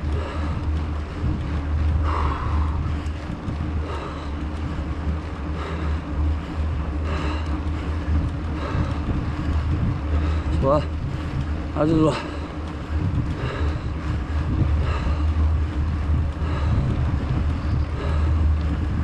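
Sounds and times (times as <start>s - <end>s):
wind and ride noise: 0.0s - 19.0s.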